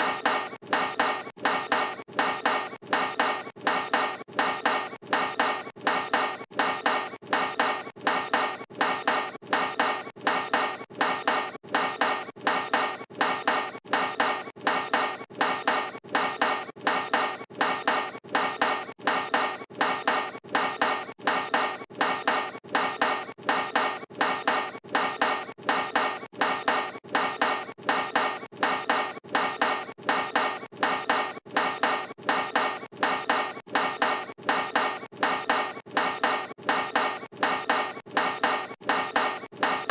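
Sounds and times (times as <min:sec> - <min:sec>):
basketball clanking off metal rim: 0:00.0 - 0:39.9.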